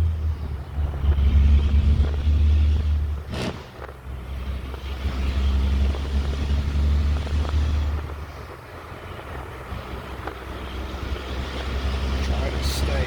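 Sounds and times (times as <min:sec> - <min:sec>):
diesel truck exhaust rumbling: 0:00.0 - 0:13.0.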